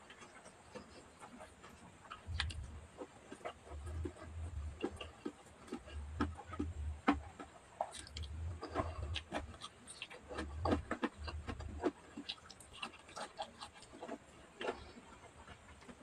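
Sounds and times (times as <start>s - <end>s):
person chewing: 0.1s - 16.0s.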